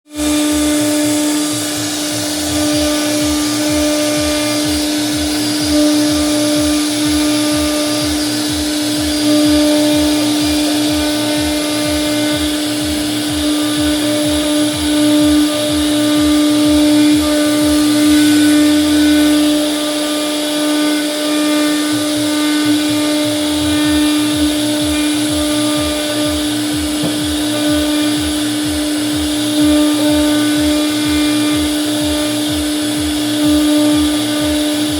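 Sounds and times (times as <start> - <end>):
low pulsing: 0.0 - 34.9
router spindle whining: 0.0 - 34.9.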